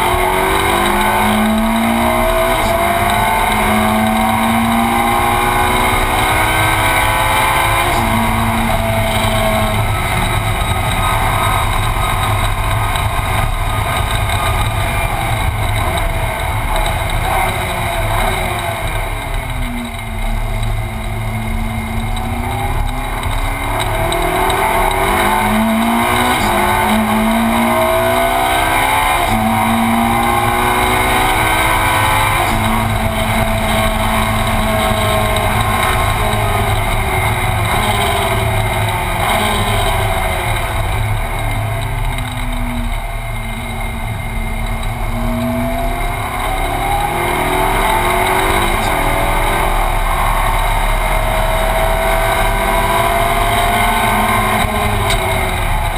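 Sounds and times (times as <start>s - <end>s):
race car engine revving through gears: 0.0s - 55.9s.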